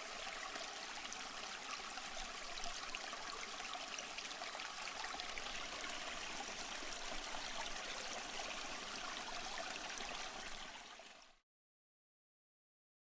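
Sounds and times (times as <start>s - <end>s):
stream babbling over rocks: 0.0s - 11.0s.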